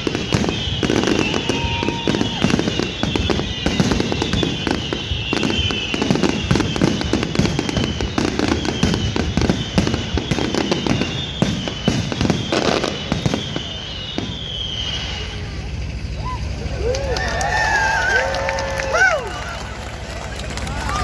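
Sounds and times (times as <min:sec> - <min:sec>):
falling firework whistle: 0:00.0 - 0:21.0
fireworks crackling and banging: 0:00.0 - 0:21.0.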